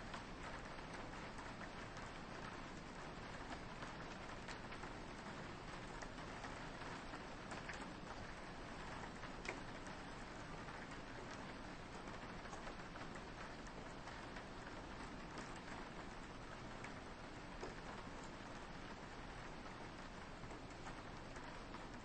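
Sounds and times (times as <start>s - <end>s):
rain on a window: 0.0s - 22.0s.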